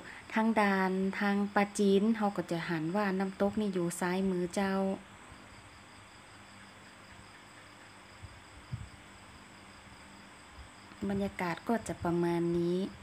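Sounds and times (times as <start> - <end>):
faint insect chirring: 0.0 - 13.0
low hiss: 0.0 - 13.0.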